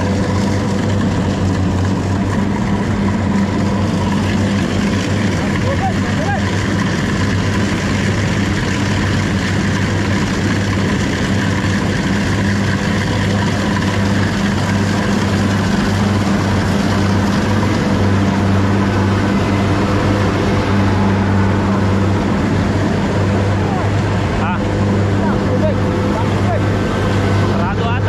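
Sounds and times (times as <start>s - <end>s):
farm machine engine running: 0.0s - 28.0s.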